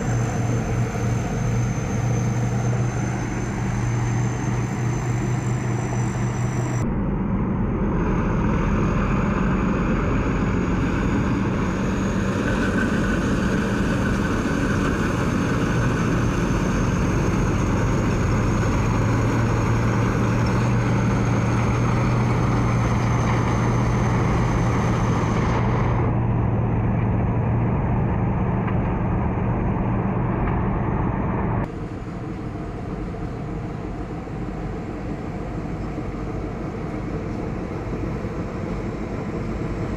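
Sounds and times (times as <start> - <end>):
combine harvester engine drone: 0.0 - 39.9
high whine: 0.0 - 39.9.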